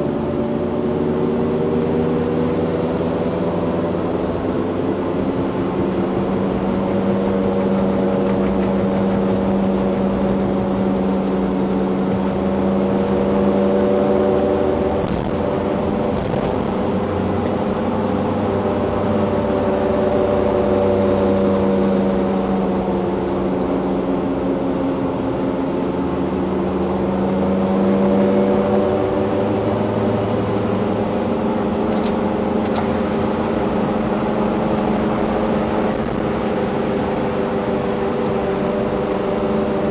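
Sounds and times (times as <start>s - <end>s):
vehicle engine droning hum: 0.0s - 39.9s.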